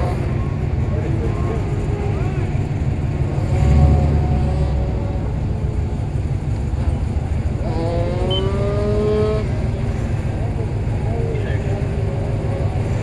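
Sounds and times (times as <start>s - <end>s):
car accelerating: 0.0s - 13.0s
car engine idling: 0.0s - 13.0s.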